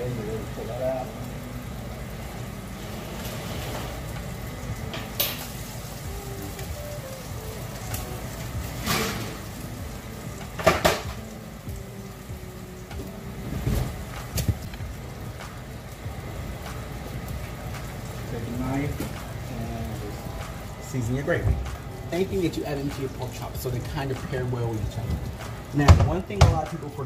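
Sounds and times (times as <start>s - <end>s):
faint sizzle: 0.0s - 27.0s.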